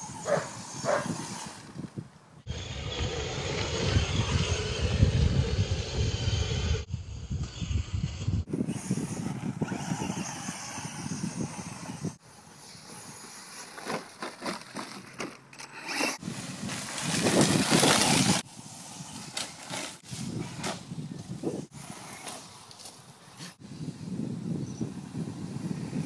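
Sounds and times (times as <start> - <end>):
rc truck driving on gravel: 0.0 - 26.0.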